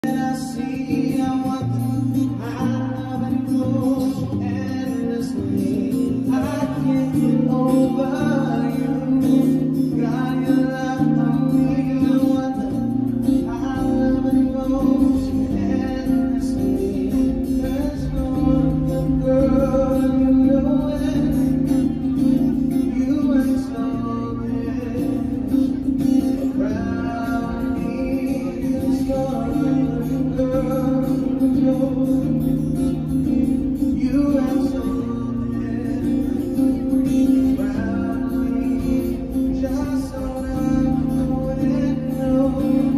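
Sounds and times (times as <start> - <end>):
amplified acoustic guitar: 0.0 - 42.9
man singing into a microphone: 0.0 - 42.9.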